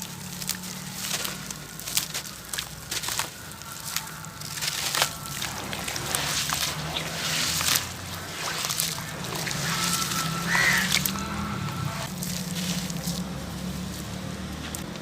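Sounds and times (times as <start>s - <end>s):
water sloshing: 0.0s - 15.0s
wet crackles and crunches: 0.0s - 15.0s.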